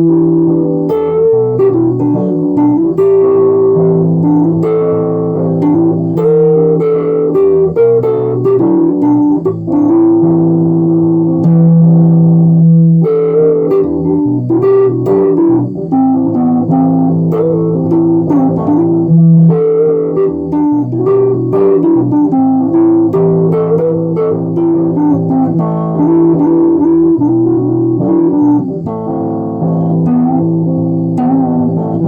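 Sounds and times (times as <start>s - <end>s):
plucked guitar melody: 0.0s - 32.0s
sustained bass notes: 0.0s - 32.0s.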